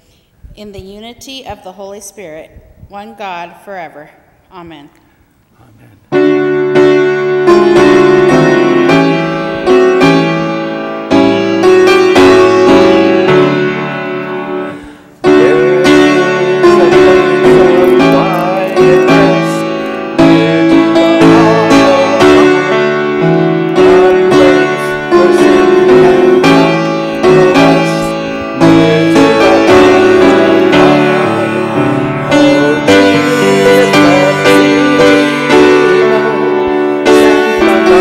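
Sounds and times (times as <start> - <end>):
grand piano slow chords: 6.1 - 38.0.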